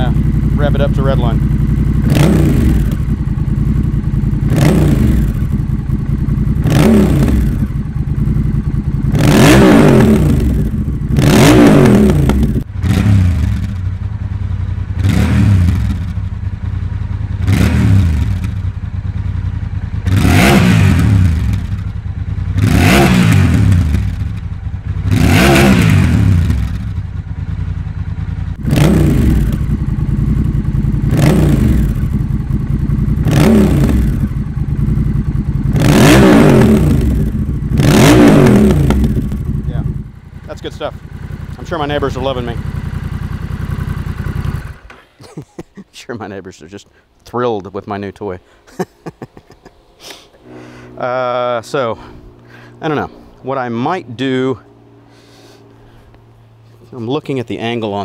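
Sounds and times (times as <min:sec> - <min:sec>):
motorcycle engine revving: 0:00.0 - 0:45.6, 0:48.4 - 0:58.0.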